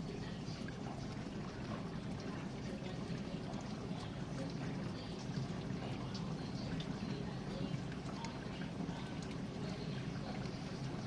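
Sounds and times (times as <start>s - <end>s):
dishwasher water running: 0.0s - 11.0s.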